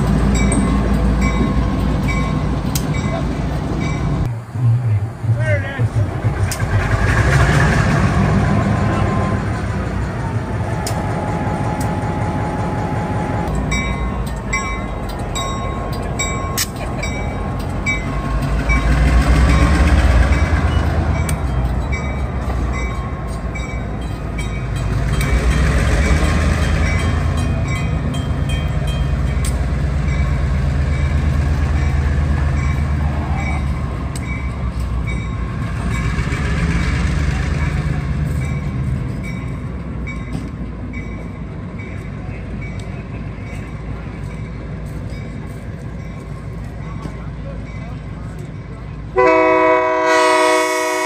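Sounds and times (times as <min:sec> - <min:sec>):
locomotive bell ringing: 0:00.0 - 0:04.3, 0:08.5 - 0:36.6, 0:37.3 - 0:50.8
diesel locomotive engine rumbling: 0:00.0 - 0:51.0.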